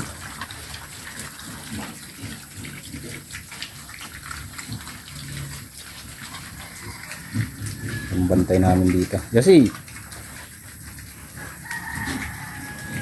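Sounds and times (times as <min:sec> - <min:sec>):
pigs chomping and slurping: 0:00.0 - 0:13.0.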